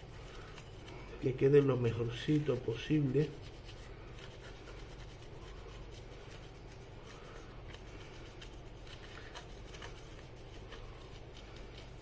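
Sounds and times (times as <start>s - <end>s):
paper napkin rubbing: 0.0s - 12.0s.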